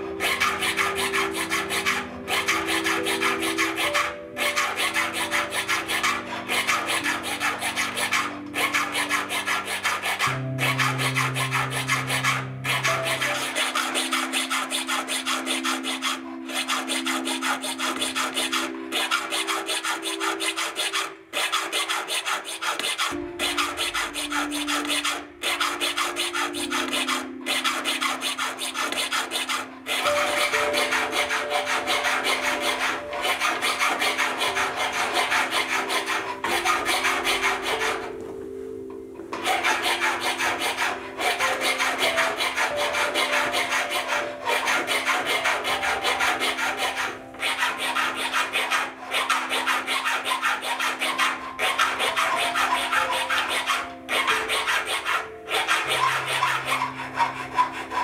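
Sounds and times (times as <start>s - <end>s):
hand file rasping on metal ring: 0.0s - 58.0s.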